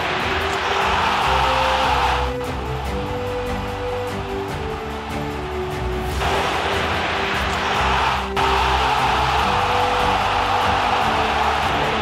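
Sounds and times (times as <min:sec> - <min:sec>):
background music sustained notes: 0:00.0 - 0:12.0.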